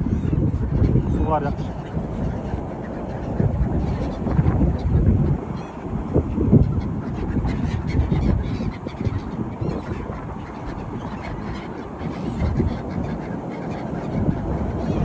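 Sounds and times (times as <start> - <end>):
waterbirds calling: 0.0 - 15.0.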